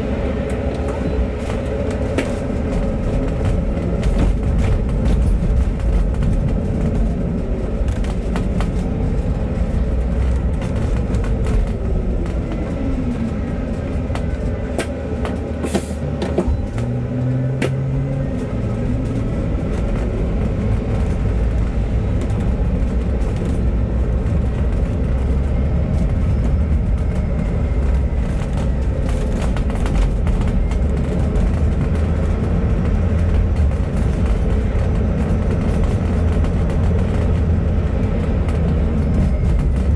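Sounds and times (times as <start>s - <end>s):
bus diesel engine: 0.0s - 39.9s
road noise: 0.0s - 39.9s.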